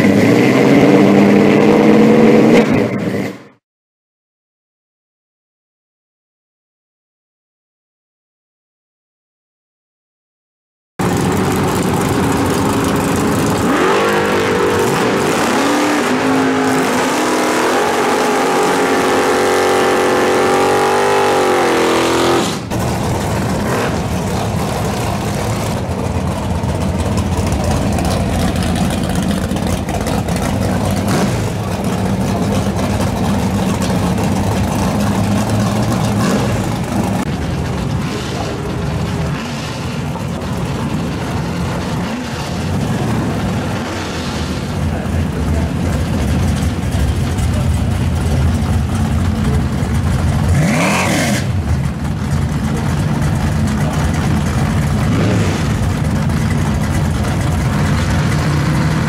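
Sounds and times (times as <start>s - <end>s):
drag car accelerating: 0.0s - 3.6s, 11.0s - 59.0s
race car engines idling: 11.0s - 59.0s.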